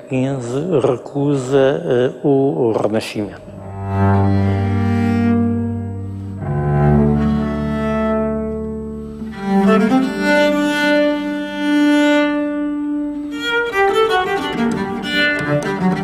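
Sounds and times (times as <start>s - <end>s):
bowed string music: 0.0s - 16.0s.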